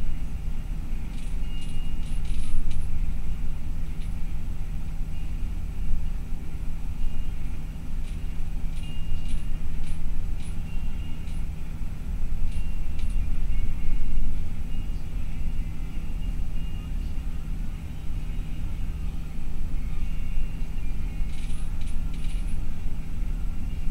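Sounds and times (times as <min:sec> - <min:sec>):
bus engine and road rumble: 0:00.0 - 0:23.9
low hum: 0:00.0 - 0:23.9.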